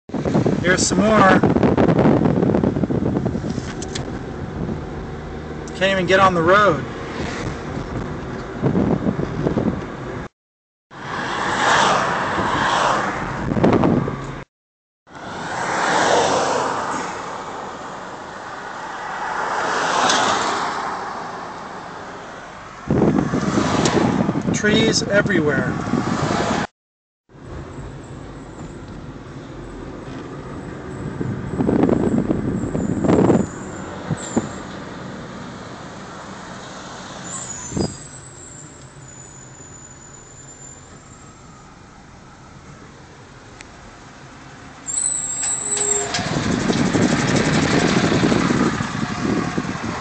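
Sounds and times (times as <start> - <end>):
car road and wind noise: 0.1 - 14.5, 15.1 - 26.7, 27.3 - 50.0.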